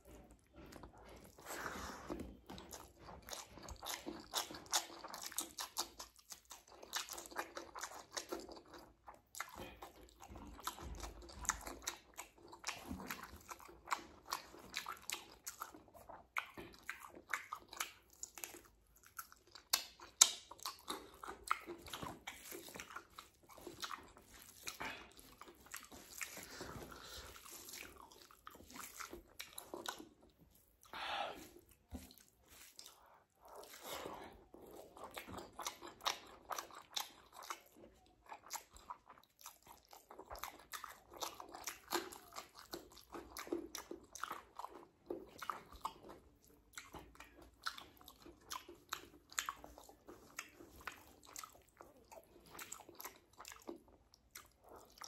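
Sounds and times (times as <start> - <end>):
open-mouth wet chewing: 0.0 - 55.0.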